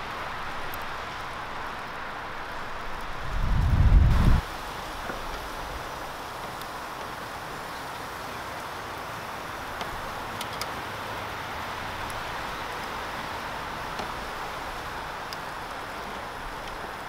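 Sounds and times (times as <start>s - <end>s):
meat sizzling over charcoal: 0.0s - 17.0s.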